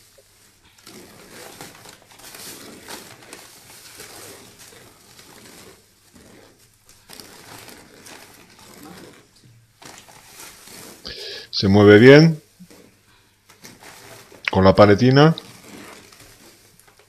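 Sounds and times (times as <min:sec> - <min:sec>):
paper sack rustling and crinkling: 0:00.0 - 0:17.0.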